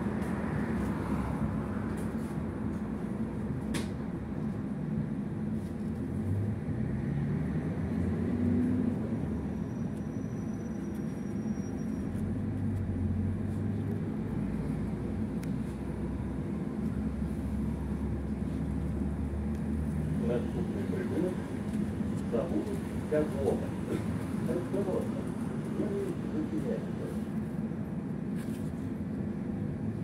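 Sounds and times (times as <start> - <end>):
low hum inside tram: 0.0 - 30.0.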